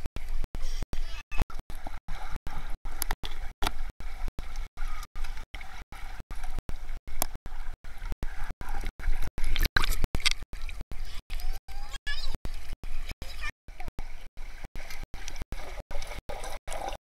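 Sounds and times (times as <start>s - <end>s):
muffled underwater gurgling: 0.0s - 17.0s.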